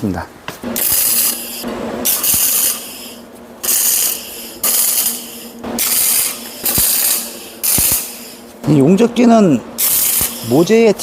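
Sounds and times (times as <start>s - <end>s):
arc welder crackling: 0.5s - 11.0s.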